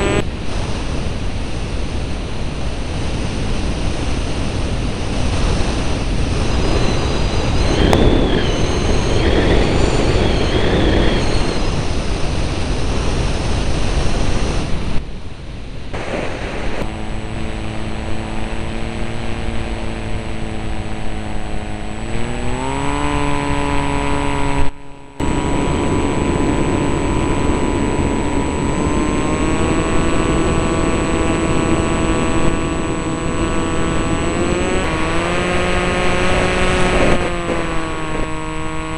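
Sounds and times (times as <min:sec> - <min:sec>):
aircraft engine drone: 0:00.0 - 0:38.9
rush of wind: 0:00.0 - 0:38.9.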